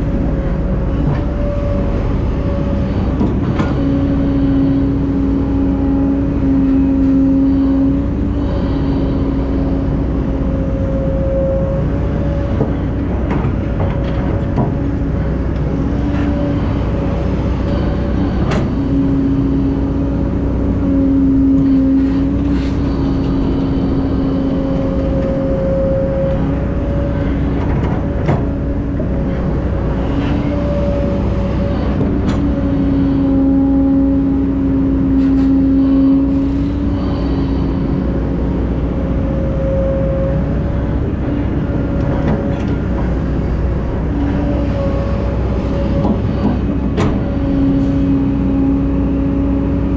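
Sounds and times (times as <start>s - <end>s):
excavator diesel engine droning: 0.0s - 49.9s.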